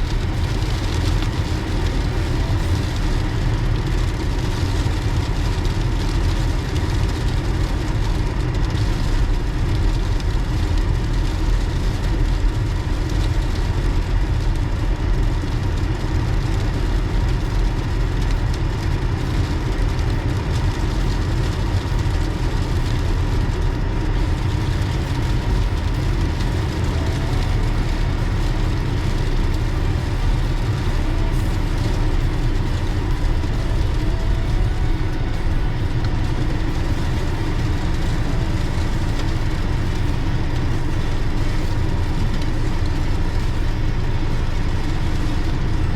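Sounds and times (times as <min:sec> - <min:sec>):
car road and engine noise: 0:00.0 - 0:45.9.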